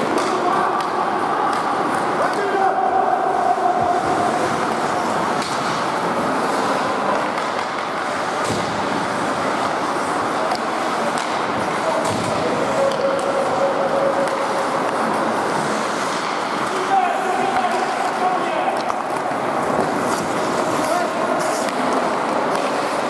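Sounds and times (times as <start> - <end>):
hockey sticks and puck clacking: 0.0 - 23.0
skates rushing on ice: 0.0 - 23.0.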